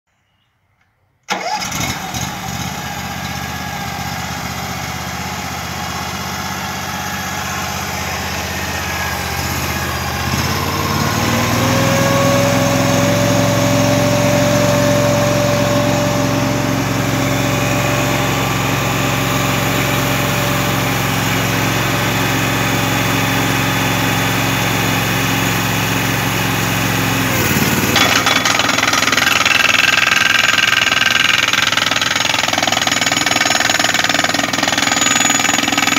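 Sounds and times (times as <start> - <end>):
hydraulic pump whine: 1.3 - 35.9
small petrol engine running: 1.3 - 35.9.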